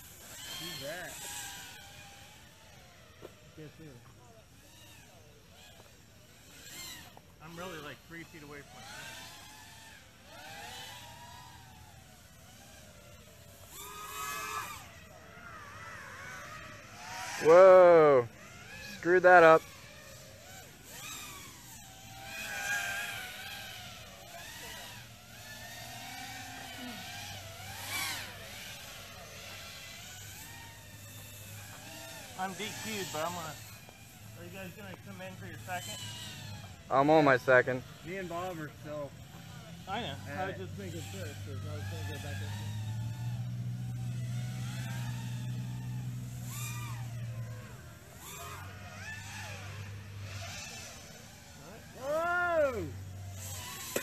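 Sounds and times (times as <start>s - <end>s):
racing drone motors whining: 0.0s - 54.0s
steady low hum: 0.0s - 54.0s.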